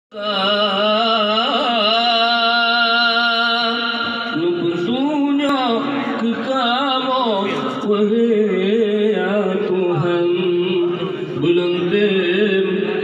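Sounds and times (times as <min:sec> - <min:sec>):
man singing unaccompanied: 0:00.1 - 0:13.0.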